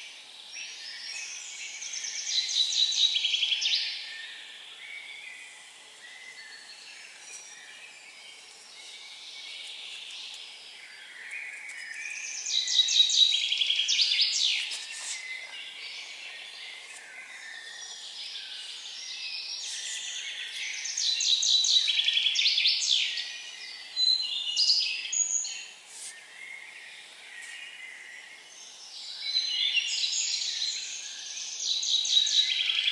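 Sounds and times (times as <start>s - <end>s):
faint birdsong: 0.0s - 32.9s
songbird trilling song: 0.0s - 32.9s.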